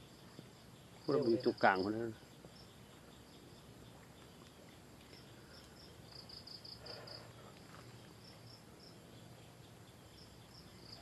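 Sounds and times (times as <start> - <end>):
high-pitched insect chirping: 0.0 - 11.0.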